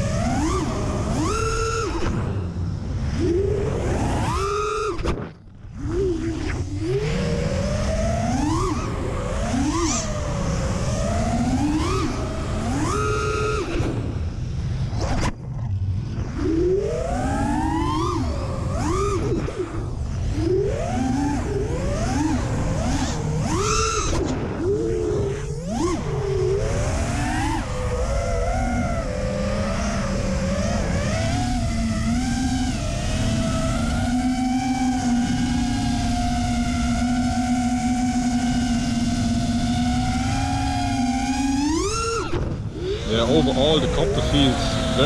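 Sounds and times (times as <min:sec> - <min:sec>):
quadcopter motors whining: 0:00.0 - 0:45.0.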